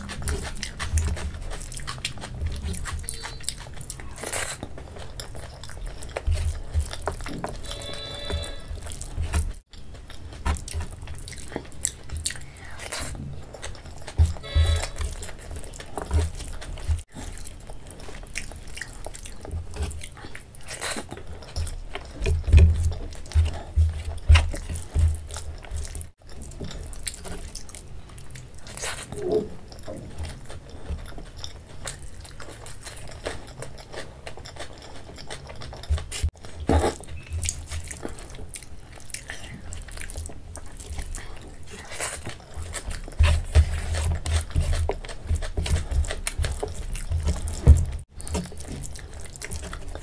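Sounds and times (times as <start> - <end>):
chewing and wet mouth sounds: 0.0 - 50.0.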